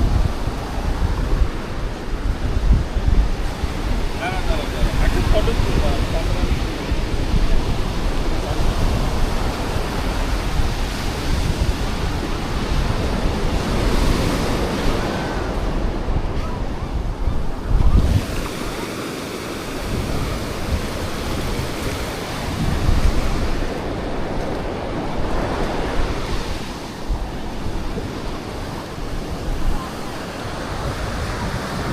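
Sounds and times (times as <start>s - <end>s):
sea waves breaking on shore: 0.0s - 31.9s
wind buffeting microphone: 0.0s - 31.9s.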